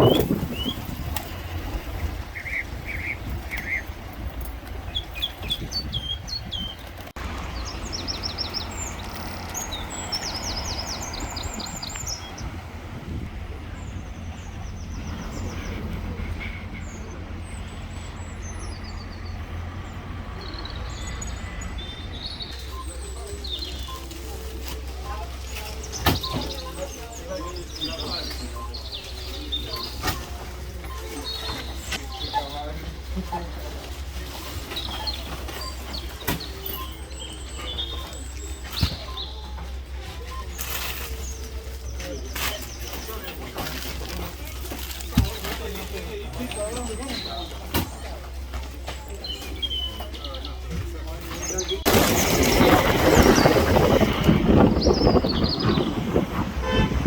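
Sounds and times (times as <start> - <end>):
small birds chirping: 0.0 - 12.8, 13.4 - 56.9.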